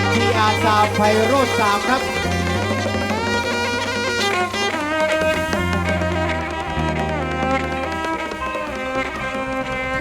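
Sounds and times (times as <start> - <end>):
sliding pitched melody: 0.0 - 10.0.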